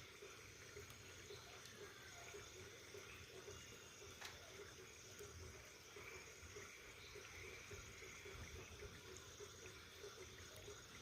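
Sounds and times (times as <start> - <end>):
faint hiss of bonfire burning: 0.0 - 11.0.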